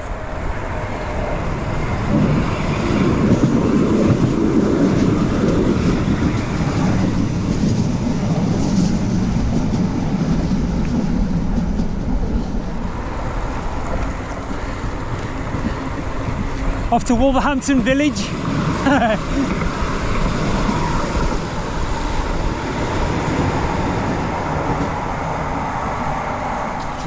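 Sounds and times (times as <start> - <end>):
tram rumbling on track: 0.0 - 27.0.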